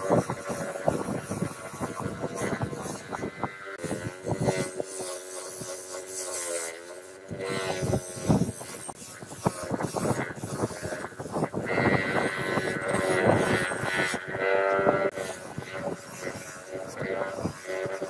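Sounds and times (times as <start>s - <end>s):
bench grinder motor hum: 0.0s - 18.0s
steel scraping on grinding wheel: 0.0s - 18.0s.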